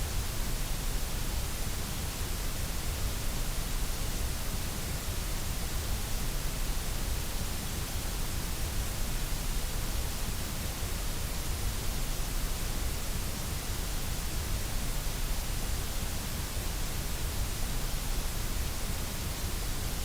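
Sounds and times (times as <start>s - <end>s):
electronic white noise hiss: 0.0s - 20.0s.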